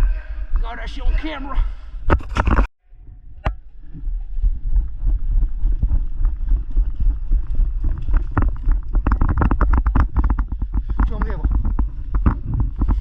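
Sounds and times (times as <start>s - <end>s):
wind buffeting microphone: 2.0s - 13.0s.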